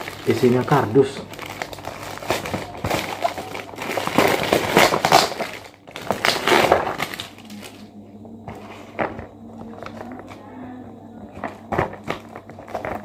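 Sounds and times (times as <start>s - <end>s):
plastic mailer bag crinkling: 0.0s - 10.4s, 11.3s - 13.0s.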